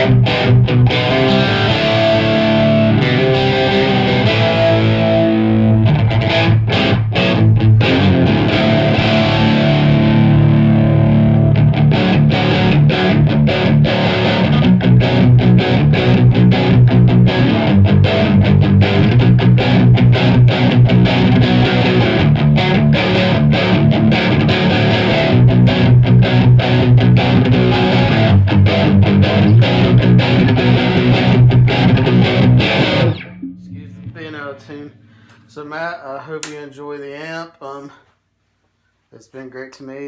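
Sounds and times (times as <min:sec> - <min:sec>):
electric guitar strummed chords: 0:00.0 - 0:35.7.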